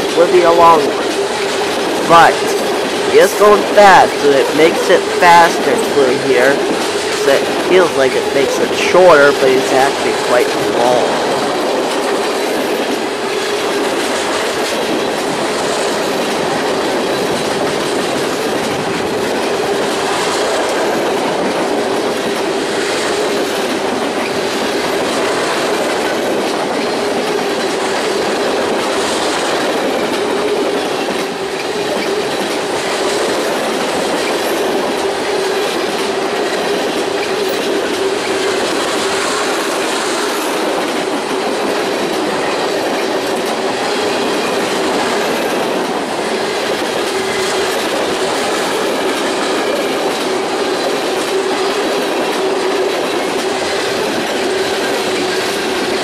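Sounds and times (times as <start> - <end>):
steel wheels rushing on rail: 0.0 - 56.0.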